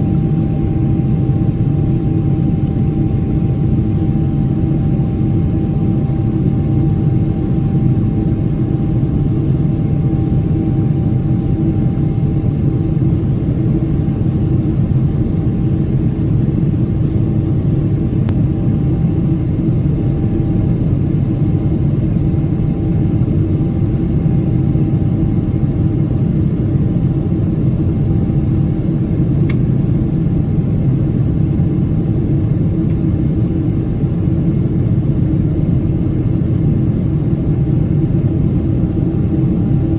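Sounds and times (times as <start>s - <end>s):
faint steady whine: 0.0s - 39.9s
jet engine roar in cabin: 0.0s - 39.9s.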